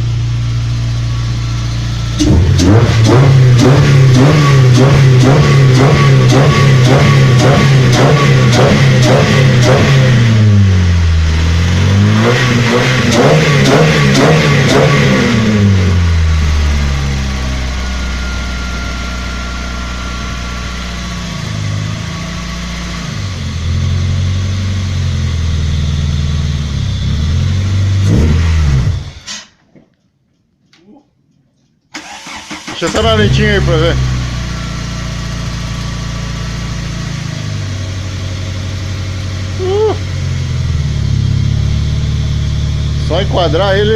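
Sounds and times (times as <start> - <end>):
car engine revving: 0.0 - 29.2, 32.0 - 43.9.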